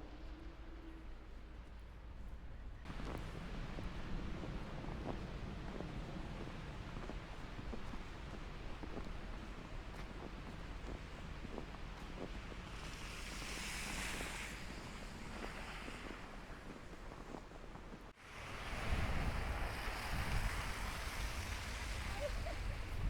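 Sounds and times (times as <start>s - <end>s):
wind buffeting microphone: 2.9s - 23.0s.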